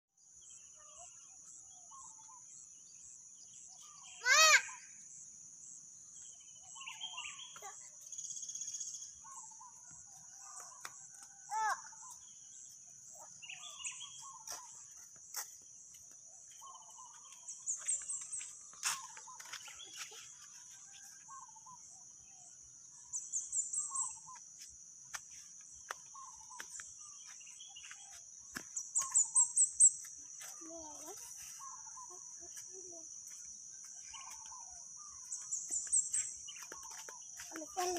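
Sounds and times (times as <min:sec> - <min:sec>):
bird calls: 0:00.5 - 0:02.6, 0:03.4 - 0:05.0, 0:06.1 - 0:37.9.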